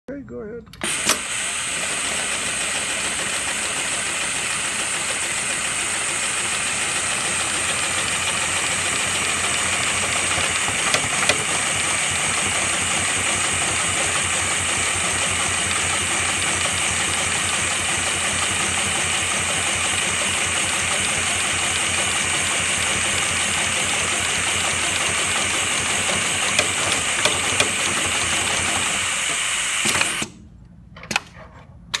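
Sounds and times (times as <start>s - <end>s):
sewing machine clicks: 0.8s - 30.3s
industrial sewing machine stitching: 0.8s - 30.4s.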